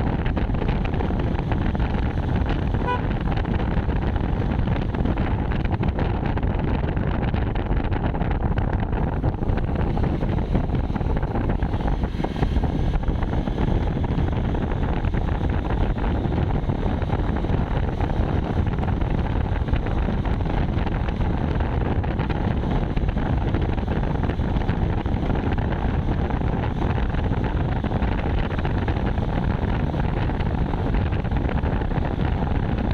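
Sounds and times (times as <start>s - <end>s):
low ride rumble: 0.0s - 32.9s
wind rushing over microphone: 0.0s - 32.9s.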